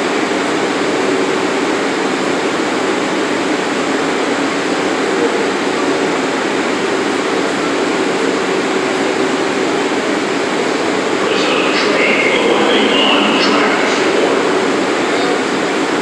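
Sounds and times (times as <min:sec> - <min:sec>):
train air conditioning hum: 0:00.0 - 0:16.0.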